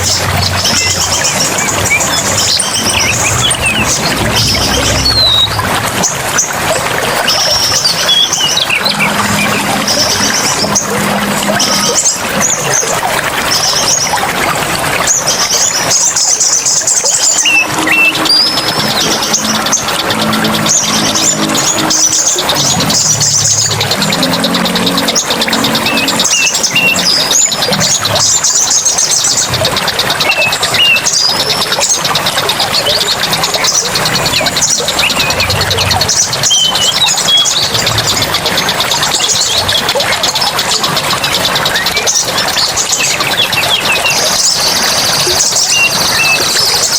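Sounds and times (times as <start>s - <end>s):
birds whistling: 0.0s - 46.9s
flowing water rushing: 0.0s - 46.9s
high-pitched pulsing trill: 0.0s - 46.9s
songbirds chirping: 0.0s - 46.9s.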